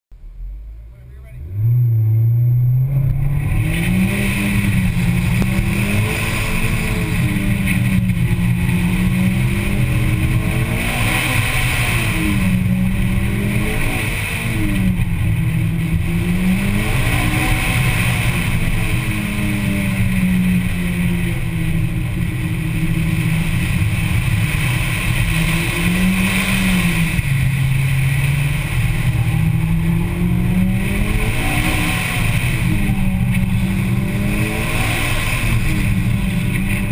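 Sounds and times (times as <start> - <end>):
car engine revving: 0.1 - 36.9
road and wind noise: 0.1 - 36.9.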